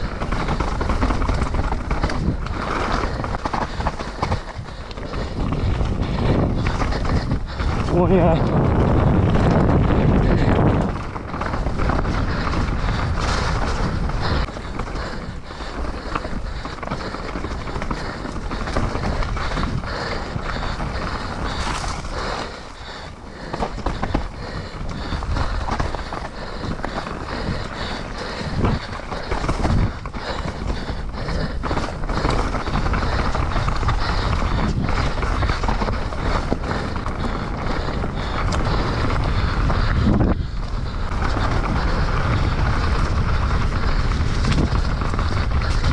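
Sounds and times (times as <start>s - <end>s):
bike knocking and clattering: 0.0s - 40.6s
bike tyres and wind rushing: 0.0s - 45.9s.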